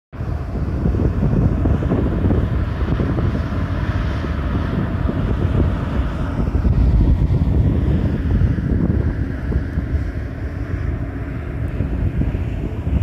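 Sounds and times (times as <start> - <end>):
wind buffeting microphone: 0.2 - 13.0.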